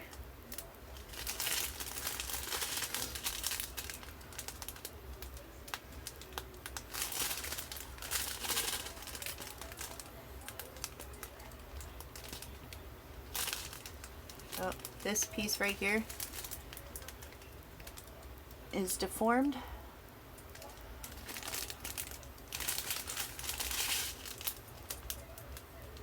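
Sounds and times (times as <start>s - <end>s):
small beads clicking in bags: 0.0s - 18.6s, 20.4s - 26.0s
plastic bags crinkling: 0.0s - 18.9s, 20.4s - 26.0s.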